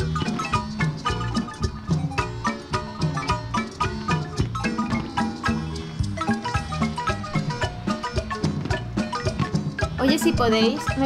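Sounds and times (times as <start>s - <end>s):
bass line: 0.0s - 11.0s
lively music with ringing notes: 0.0s - 11.0s.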